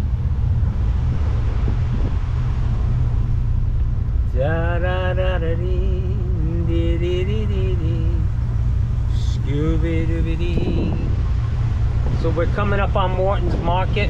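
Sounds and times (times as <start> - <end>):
vehicle idling: 0.0 - 14.0.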